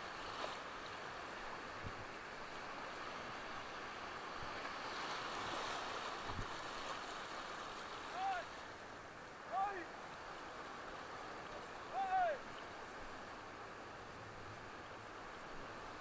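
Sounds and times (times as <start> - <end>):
waves breaking in shallows: 0.0 - 16.0.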